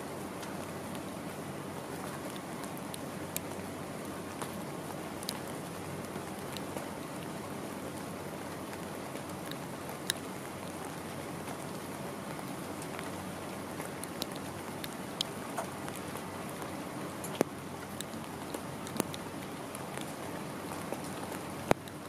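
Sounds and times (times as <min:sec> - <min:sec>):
rain falling: 0:00.0 - 0:22.0
water drips on a surface: 0:00.1 - 0:22.0.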